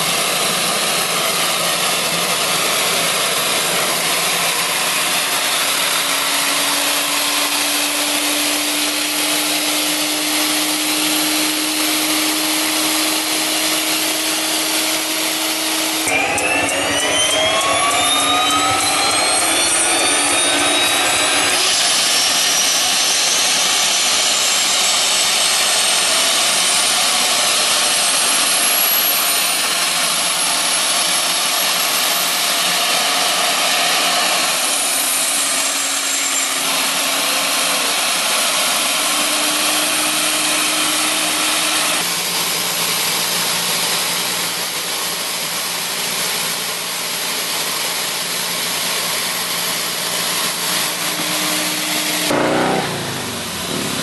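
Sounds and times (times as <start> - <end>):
engine rushing sound: 0.0 - 42.1, 48.8 - 54.0
turbine engine whine: 0.0 - 54.0.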